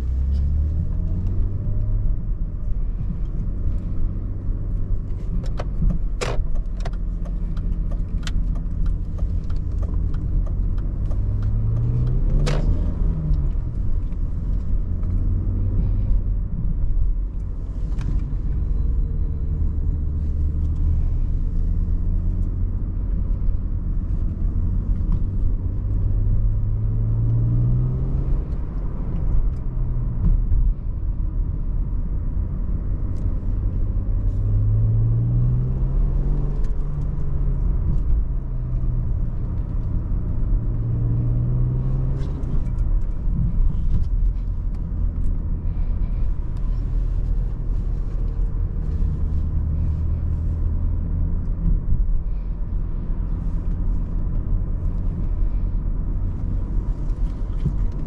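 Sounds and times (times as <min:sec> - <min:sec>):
car engine from inside cabin: 0:00.0 - 0:58.0.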